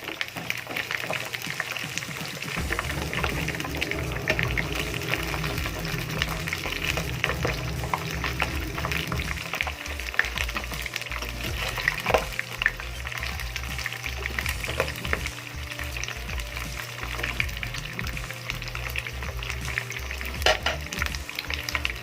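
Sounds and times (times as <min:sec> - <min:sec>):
potatoes frying in hot oil: 0:00.0 - 0:22.0.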